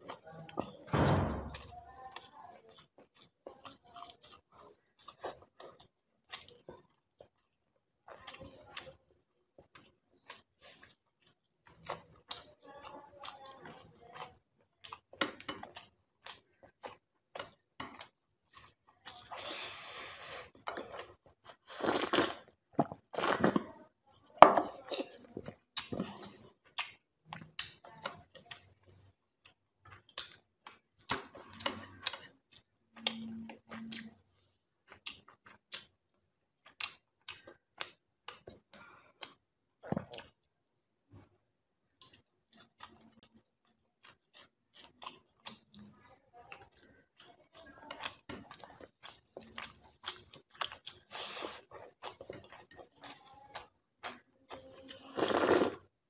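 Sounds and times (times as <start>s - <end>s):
person chewing food: 0.0s - 23.8s, 24.6s - 56.0s.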